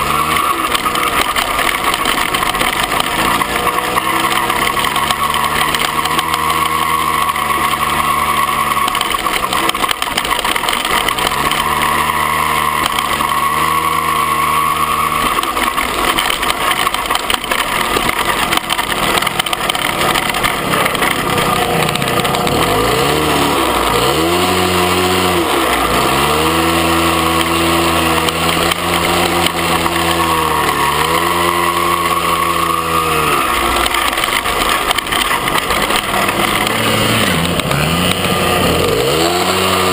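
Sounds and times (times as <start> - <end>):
dirt bike engine revving: 0.0 - 39.9
rattle: 0.0 - 39.9.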